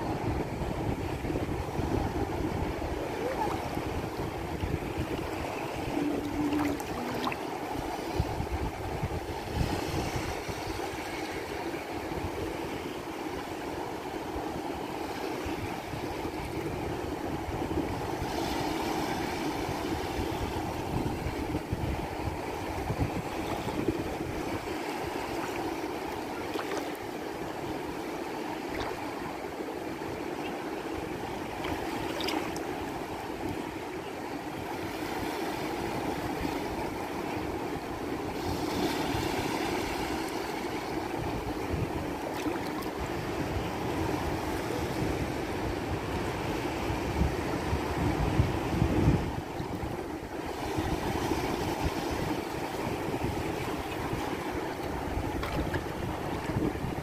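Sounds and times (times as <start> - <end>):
small waves breaking: 0.0 - 57.0.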